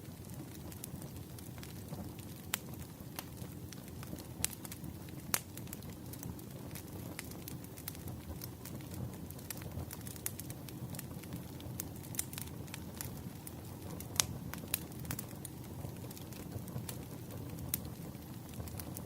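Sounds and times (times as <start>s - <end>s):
fire crackling and popping: 0.0s - 19.0s
firewood burning: 0.0s - 19.0s.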